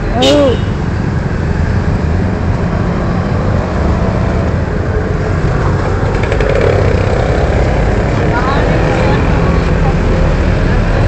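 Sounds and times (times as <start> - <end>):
traffic engines in underpass: 0.0 - 11.0.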